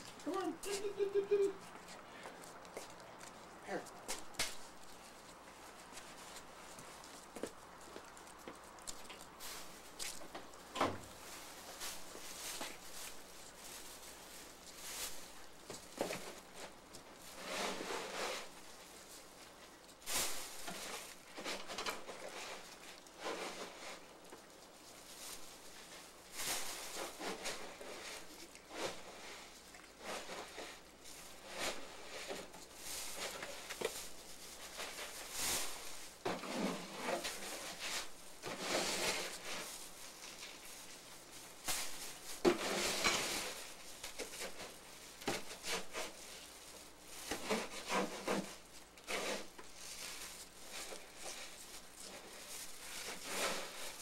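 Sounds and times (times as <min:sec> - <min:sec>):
rustling and scuffing: 0:00.0 - 0:54.0
plastic bag handled: 0:09.2 - 0:54.0.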